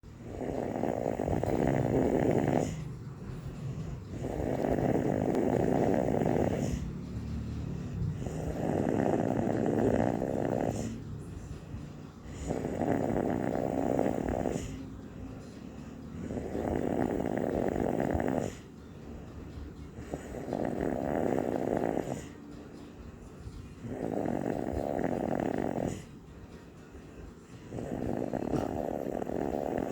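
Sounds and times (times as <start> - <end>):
quiet breathing: 0.0 - 29.9
person snoring: 0.2 - 18.7, 19.8 - 22.4, 23.6 - 26.2, 27.5 - 29.9.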